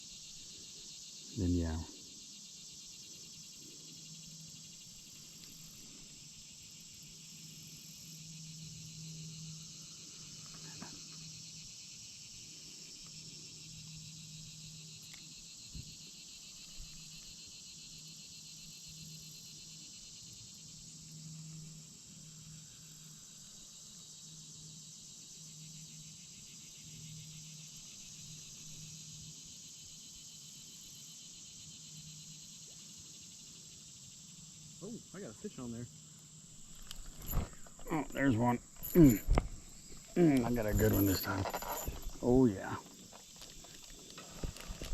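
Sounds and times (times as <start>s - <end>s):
crickets and insects chirring: 0.0s - 44.9s.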